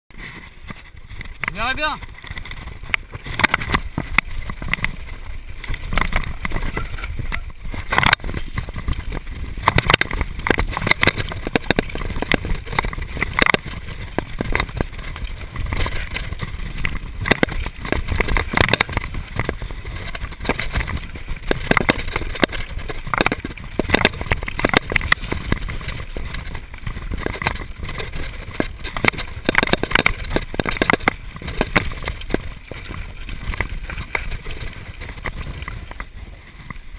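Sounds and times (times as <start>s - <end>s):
bike clattering over stones: 0.1s - 36.9s
tyres rumbling on dirt: 0.1s - 36.9s
wind on microphone: 0.1s - 36.9s.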